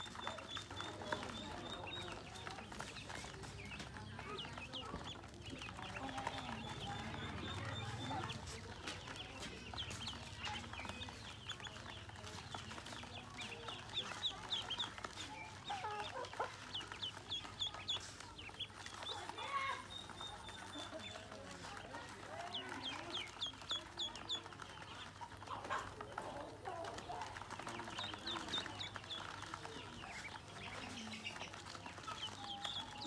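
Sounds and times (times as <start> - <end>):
ducklings peeping: 0.0 - 33.0.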